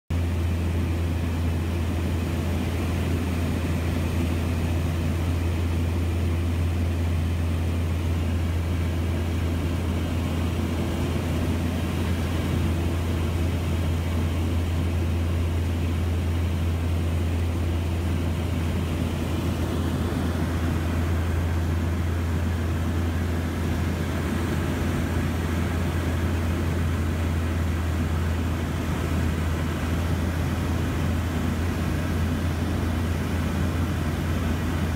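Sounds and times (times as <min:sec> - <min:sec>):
turboprop engines droning: 0:00.1 - 0:34.9.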